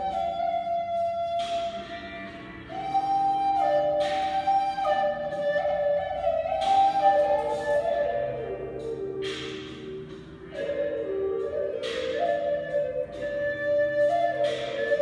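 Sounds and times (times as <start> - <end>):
slow blues guitar backing track: 0.0 - 15.0
wooden flute playing blues melody: 0.0 - 15.0.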